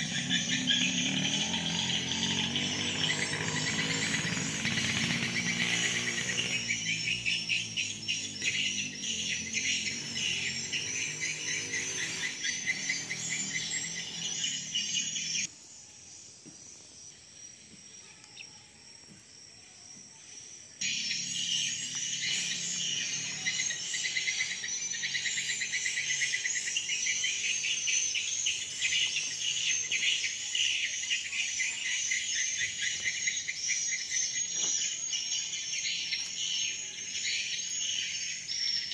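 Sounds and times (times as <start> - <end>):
shrill pulsing insect chorus: 0.0 - 38.9.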